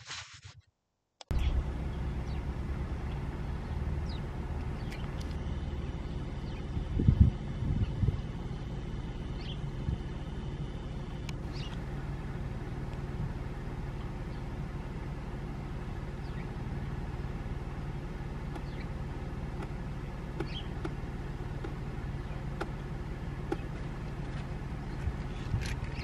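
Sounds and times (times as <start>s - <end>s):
vehicle engine idling: 1.3s - 26.0s.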